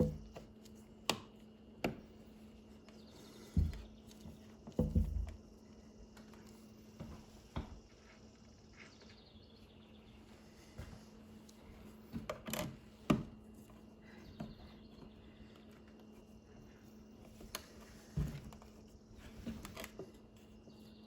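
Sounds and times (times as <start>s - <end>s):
faint steady low hum: 0.0s - 21.0s.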